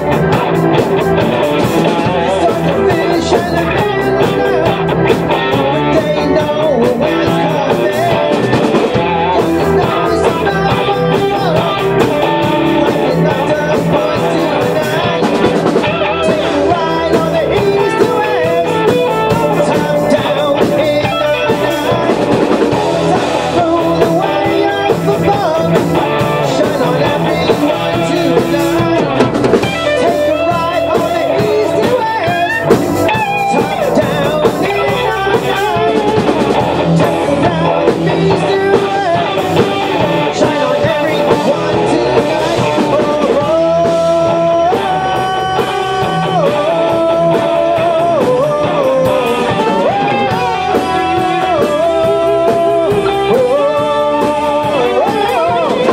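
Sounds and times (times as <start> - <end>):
bass guitar: 0.0 - 55.9
drum kit: 0.0 - 55.9
electric guitar: 0.0 - 55.9.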